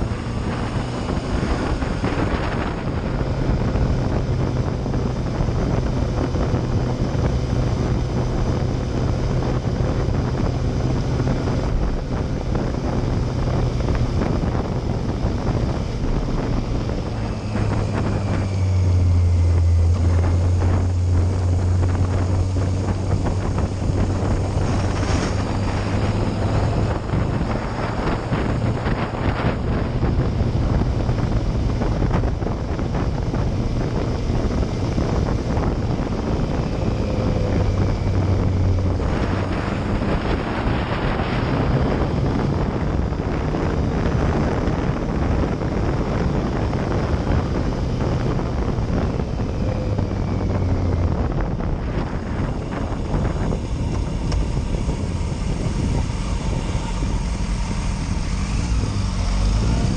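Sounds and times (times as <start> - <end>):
motorcycle engine running: 0.0 - 59.9
wind rushing on microphone: 0.0 - 59.9.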